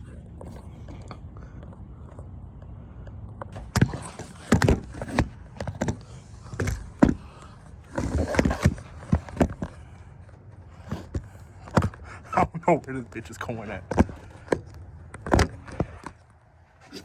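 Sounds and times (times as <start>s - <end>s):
engine parts knocking and clunking: 0.0s - 16.6s.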